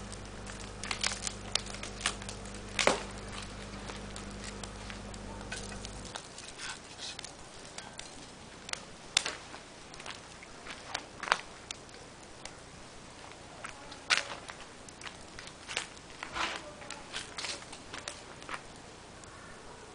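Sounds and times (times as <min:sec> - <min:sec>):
steady low hum: 0:00.0 - 0:16.2
fire crackling and popping: 0:00.0 - 0:19.5.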